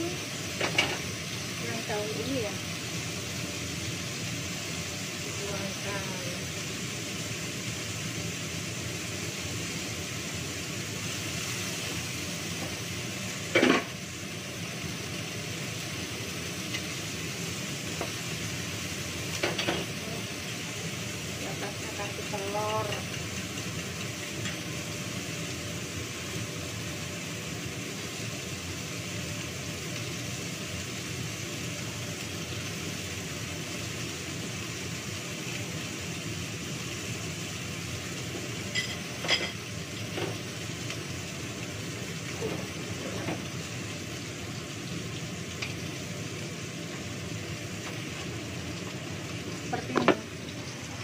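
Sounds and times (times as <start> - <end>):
food sizzling in a wok: 0.0 - 51.0.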